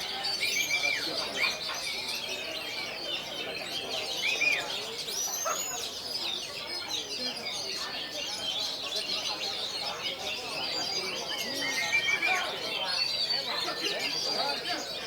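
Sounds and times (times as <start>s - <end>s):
chorus of songbirds whistling: 0.0s - 15.0s.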